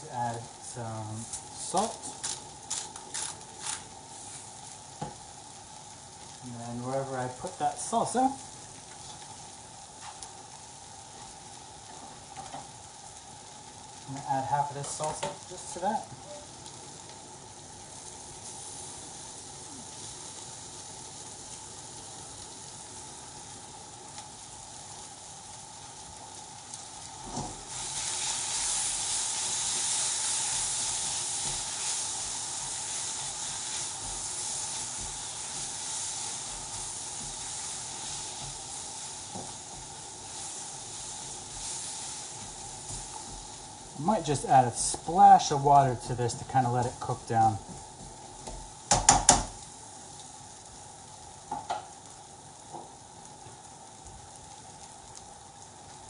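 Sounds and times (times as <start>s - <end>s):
vegetables sizzling in a wok: 0.0s - 56.0s.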